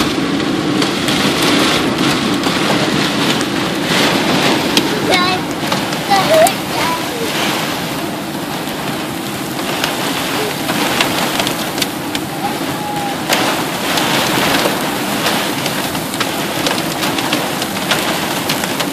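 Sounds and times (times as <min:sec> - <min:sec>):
heavy rain pouring: 0:00.0 - 0:18.9
raindrops ticking close by: 0:00.0 - 0:18.9.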